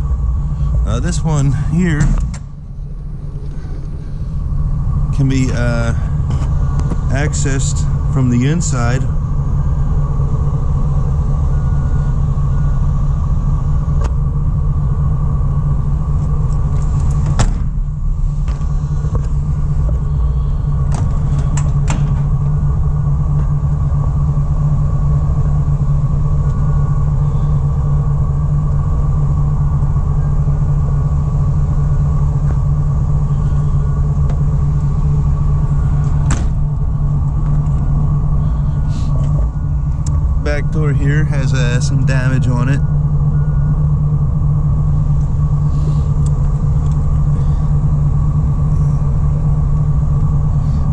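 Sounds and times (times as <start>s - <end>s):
faint steady tone: 0.0s - 50.9s
van engine idling: 0.0s - 50.9s.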